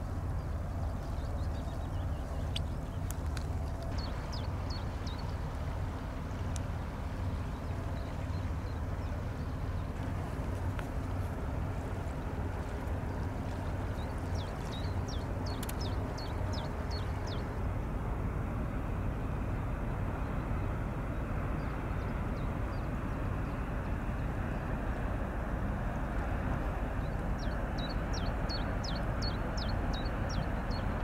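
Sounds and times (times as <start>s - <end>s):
low drone of boat engines: 0.0s - 31.0s.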